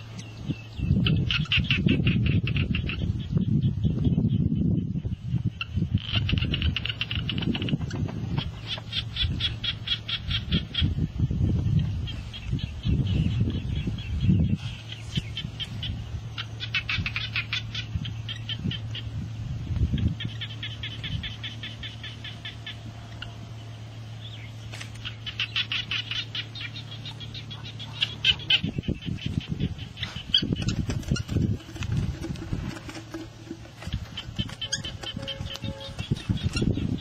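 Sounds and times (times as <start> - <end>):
rapid chattering animal calls: 0.0 - 37.0
steady low hum: 0.0 - 37.0.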